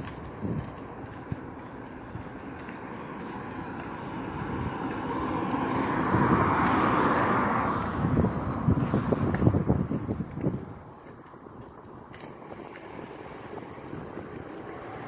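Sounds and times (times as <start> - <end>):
vehicle passing on road: 0.0 - 15.0
wind buffeting microphone: 0.0 - 15.0.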